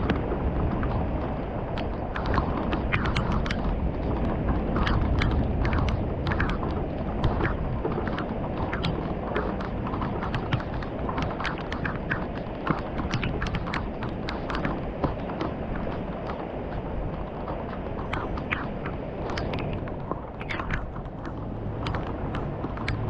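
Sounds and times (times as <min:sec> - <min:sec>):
rain and wind roar: 0:00.0 - 0:23.0
raindrops tapping on hard surface: 0:00.0 - 0:23.0.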